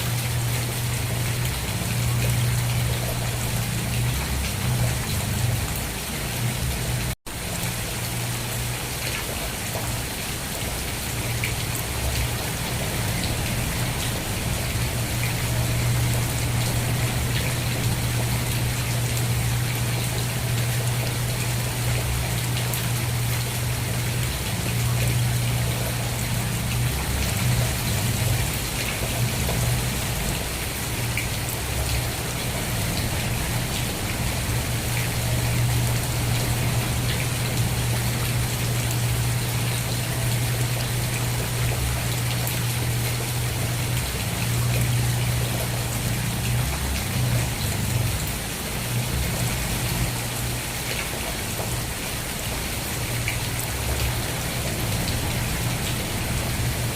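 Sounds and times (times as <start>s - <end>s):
steady rain with ticking drops: 0.0s - 56.9s.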